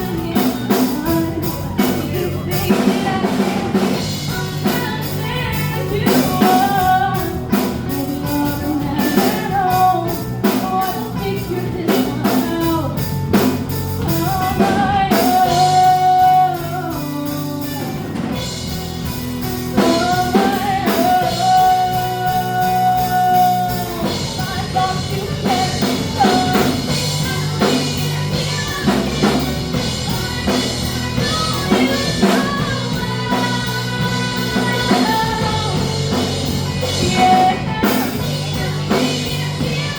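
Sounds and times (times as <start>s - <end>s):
drum kit: 0.0s - 39.9s
guitar: 0.0s - 39.9s
person singing: 0.0s - 39.9s.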